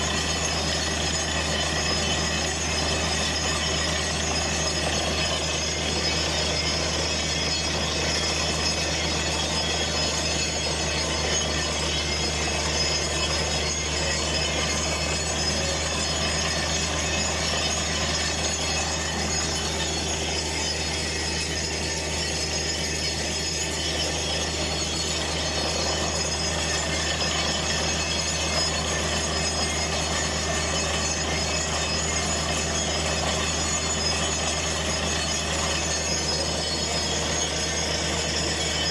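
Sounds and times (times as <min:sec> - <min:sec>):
drilling rig humming: 0:00.0 - 0:38.9.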